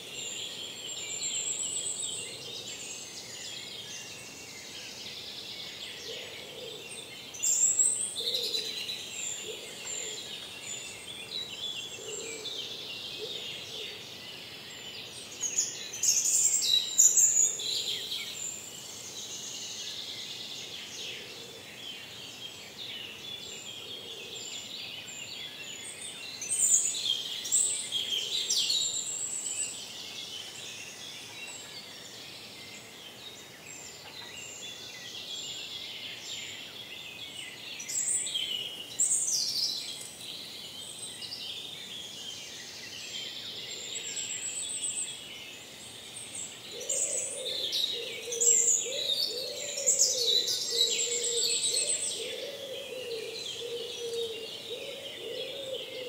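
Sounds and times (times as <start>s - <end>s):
background hiss: 0.0s - 56.0s
birds singing: 0.0s - 56.0s.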